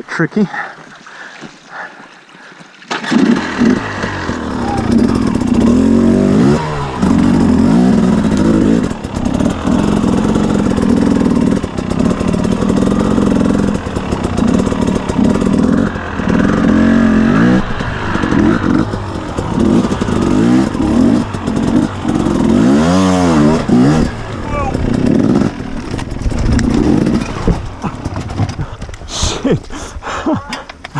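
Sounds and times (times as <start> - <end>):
dirt bike engine revving: 2.9 - 29.7.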